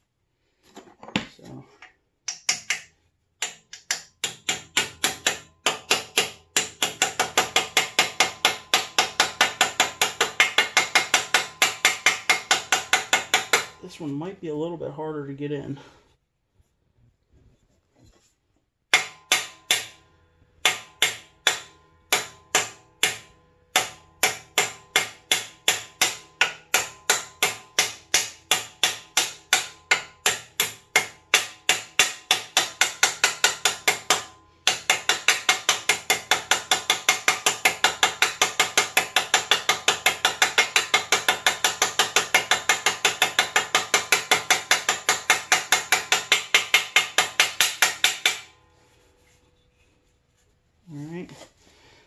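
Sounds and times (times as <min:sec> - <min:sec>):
hammer tapping metal bearing: 0:01.8 - 0:13.8, 0:18.9 - 0:48.6.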